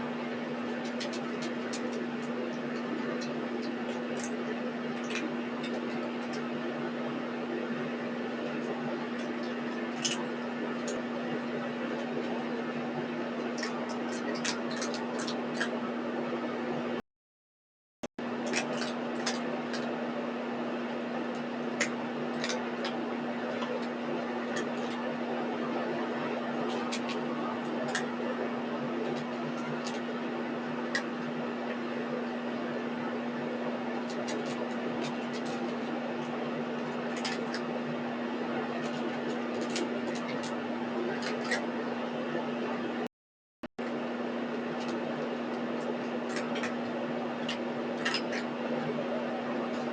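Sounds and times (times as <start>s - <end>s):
steady low hum: 0.0s - 17.0s, 18.2s - 43.1s, 43.8s - 49.9s.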